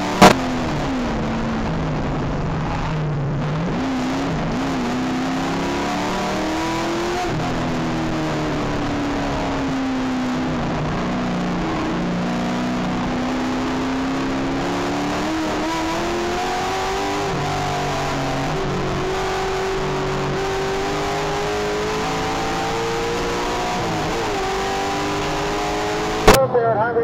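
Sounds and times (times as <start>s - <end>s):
racing car engine: 0.0s - 27.0s.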